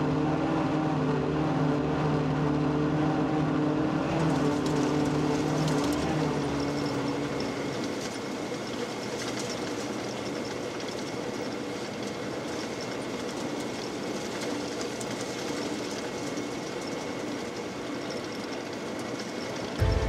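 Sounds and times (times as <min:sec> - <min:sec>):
machinery drone and rattle: 0:00.0 - 0:20.0.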